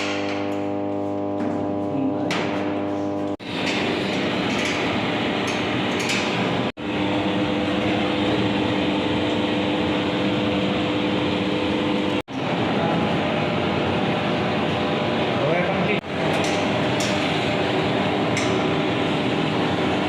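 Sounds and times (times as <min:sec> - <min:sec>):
machine blowing with low hum: 0:00.0 - 0:20.0.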